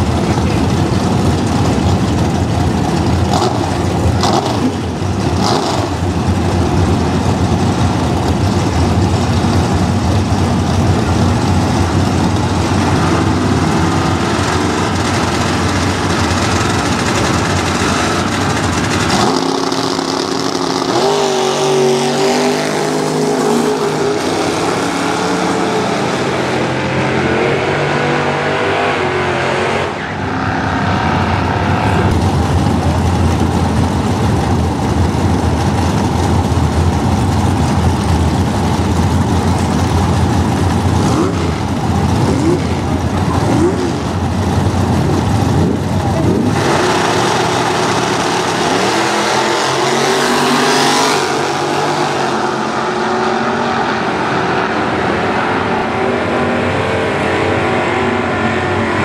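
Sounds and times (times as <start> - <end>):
racing car engines at full throttle: 0.0 - 59.0.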